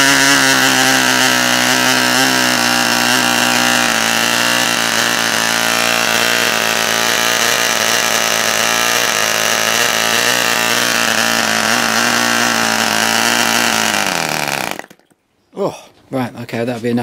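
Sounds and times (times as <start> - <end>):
model aircraft engine buzzing: 0.0 - 15.1.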